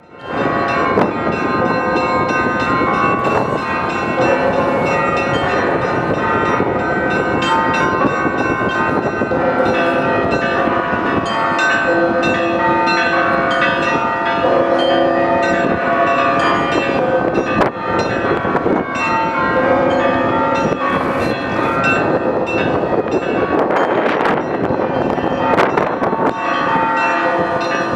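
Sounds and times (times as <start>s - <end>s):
church bells pealing: 0.0s - 27.9s.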